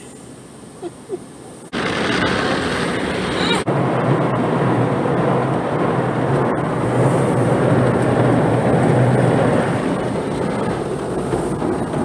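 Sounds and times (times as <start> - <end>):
car wash machinery running: 1.7 - 12.0.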